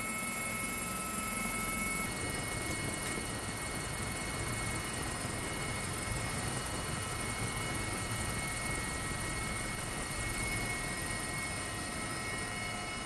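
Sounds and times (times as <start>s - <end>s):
helicopter cabin rotor noise: 0.0s - 13.0s
high-pitched turbine whines: 0.0s - 13.0s.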